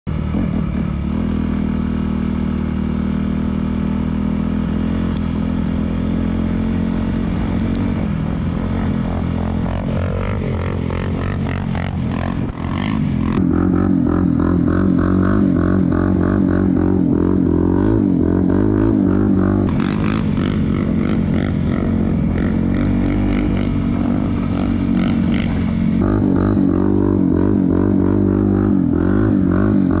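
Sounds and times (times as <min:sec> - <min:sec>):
dirt bike engine revving: 0:00.1 - 0:30.0
quad bike engine revving: 0:00.1 - 0:30.0.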